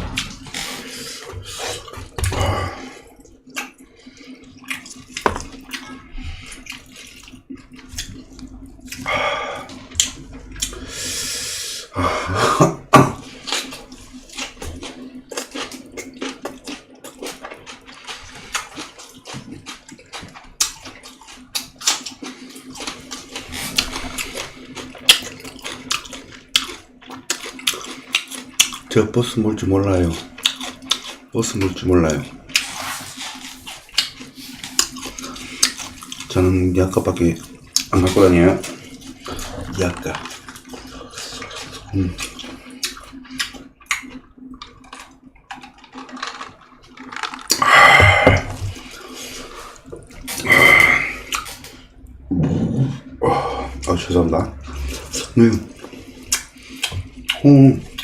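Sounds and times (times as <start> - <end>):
wet chewing and smacking: 0.0 - 10.9, 12.8 - 52.2, 53.0 - 58.0
faint steady hum: 0.0 - 58.0.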